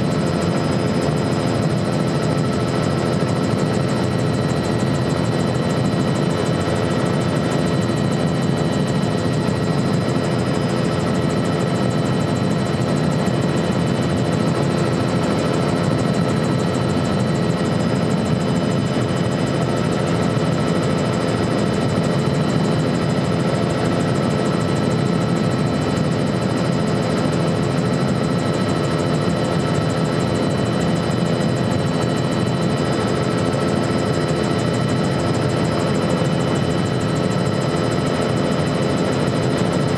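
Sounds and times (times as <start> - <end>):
helicopter drone from cabin: 0.0 - 39.9.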